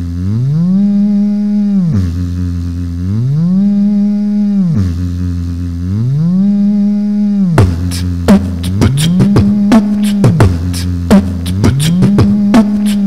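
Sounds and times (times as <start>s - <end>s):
man humming looped phrase: 0.1s - 2.3s, 3.3s - 5.1s, 6.2s - 13.0s.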